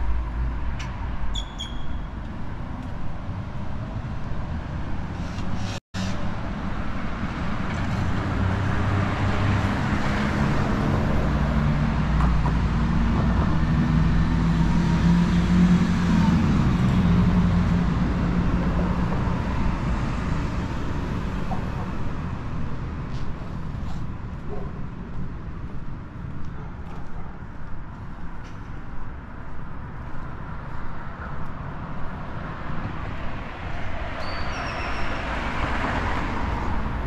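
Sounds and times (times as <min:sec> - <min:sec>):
street traffic: 0:00.0 - 0:37.0.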